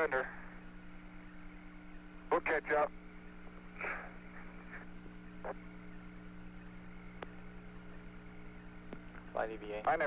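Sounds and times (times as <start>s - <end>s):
radio electrical hum and static: 0.0s - 10.0s.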